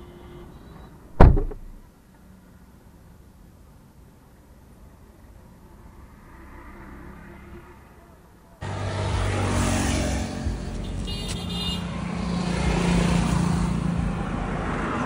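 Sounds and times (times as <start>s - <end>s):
passing traffic rush: 0.0s - 15.0s.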